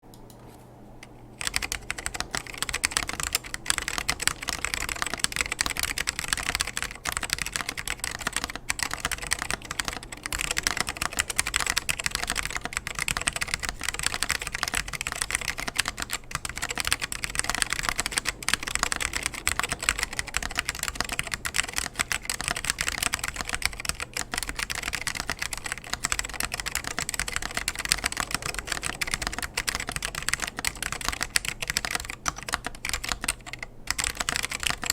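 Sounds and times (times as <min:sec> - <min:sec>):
mechanical keyboard typing: 0:01.0 - 0:34.9.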